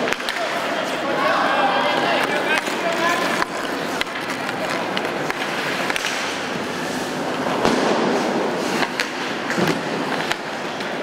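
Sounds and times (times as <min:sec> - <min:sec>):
hockey sticks clacking: 0:00.0 - 0:11.0
skates scraping on ice: 0:00.0 - 0:11.0.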